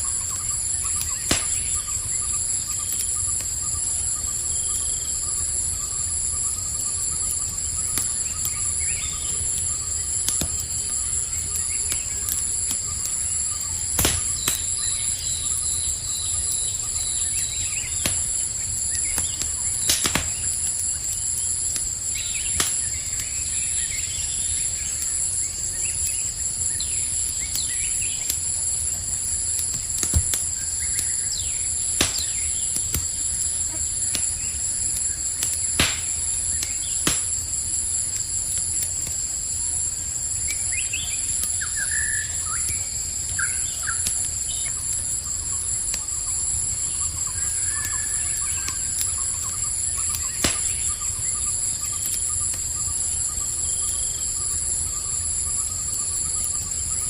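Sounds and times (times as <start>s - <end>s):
campfire crackling and popping: 0.0s - 57.0s
crickets trilling: 0.0s - 57.0s.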